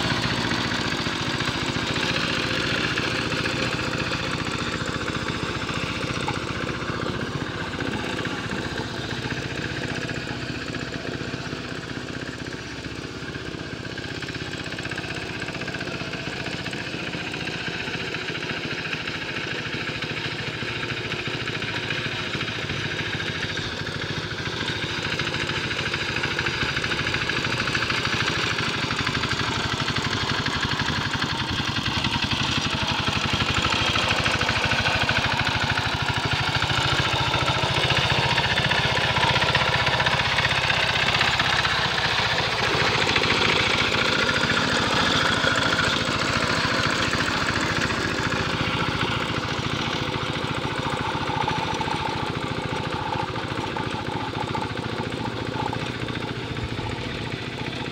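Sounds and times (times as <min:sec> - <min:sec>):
hand tractor engine running: 0:00.0 - 0:57.9.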